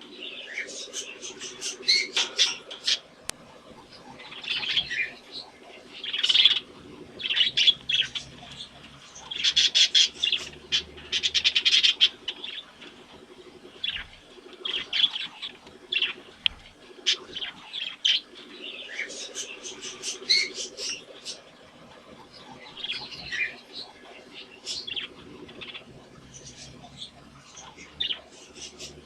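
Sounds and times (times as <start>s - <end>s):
budgerigars chirping and warbling: 0.1s - 29.0s.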